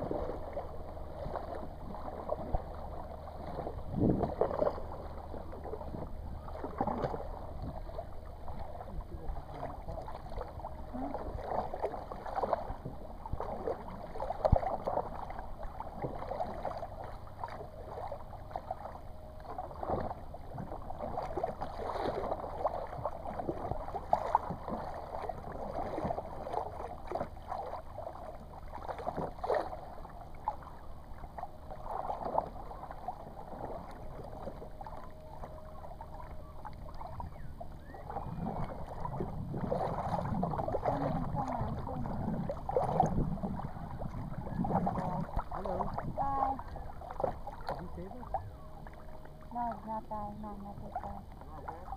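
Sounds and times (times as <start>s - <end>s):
kayak paddles splashing in water: 0.0s - 51.9s.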